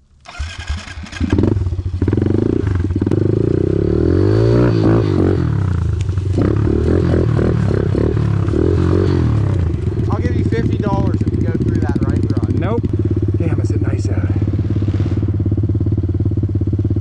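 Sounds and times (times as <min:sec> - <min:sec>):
dirt bike engine revving: 0:00.2 - 0:17.0.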